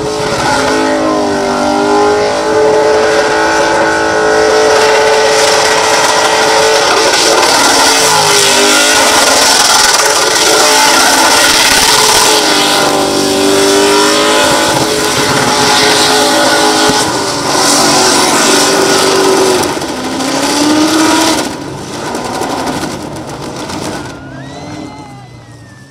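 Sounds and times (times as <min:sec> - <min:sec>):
car engine revving hard: 0:00.0 - 0:24.9.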